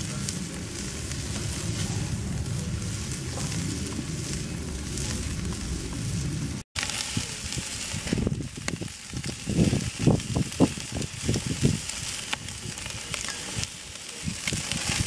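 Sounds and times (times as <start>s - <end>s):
low rumbling bursts: 0.0s - 15.0s
meat sizzling on grill: 0.0s - 15.0s.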